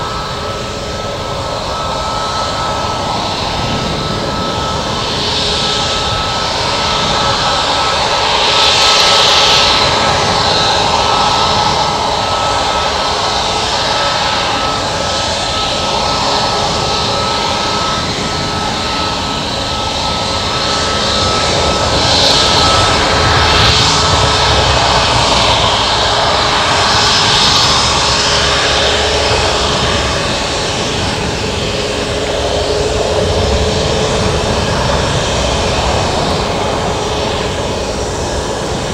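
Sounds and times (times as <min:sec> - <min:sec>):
jet engine whine and hiss: 0:00.0 - 0:38.9.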